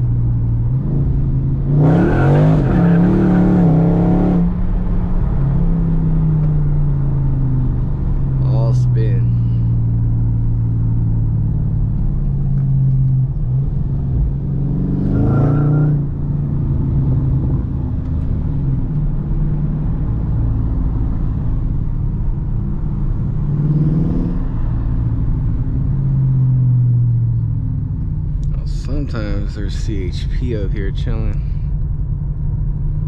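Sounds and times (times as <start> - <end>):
car engine revving: 0.0 - 31.4.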